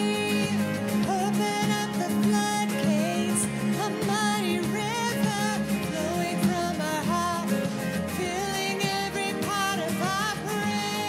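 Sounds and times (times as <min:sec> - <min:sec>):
instrumental band accompaniment: 0:00.0 - 0:11.0
woman singing: 0:00.0 - 0:11.0.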